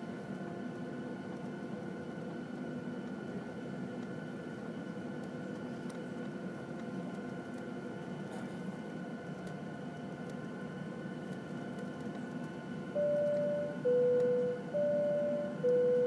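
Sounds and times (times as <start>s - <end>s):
jet engines humming and whining: 0.0s - 16.0s.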